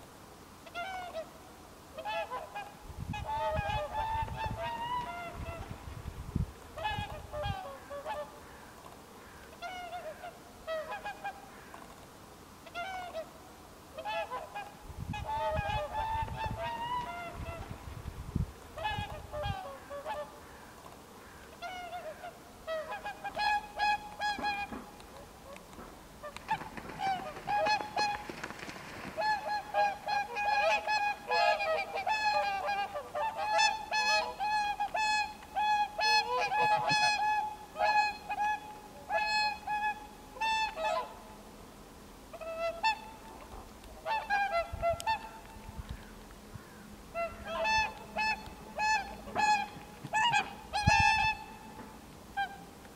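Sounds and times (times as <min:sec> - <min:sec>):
swans honking and bugling: 0:00.6 - 0:52.9.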